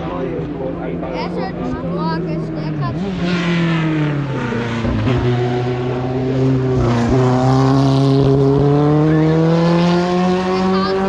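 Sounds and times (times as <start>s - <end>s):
racing car engine at high revs: 0.0s - 11.0s.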